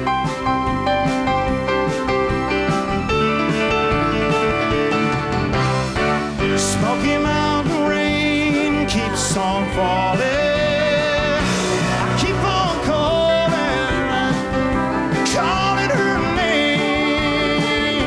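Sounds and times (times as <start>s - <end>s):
live country band playing: 0.0s - 18.0s.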